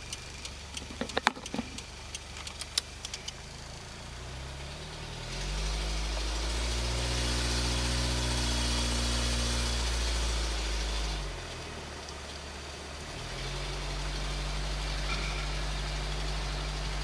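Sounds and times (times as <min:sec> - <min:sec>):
car engine and tyre hum: 0:00.0 - 0:17.0.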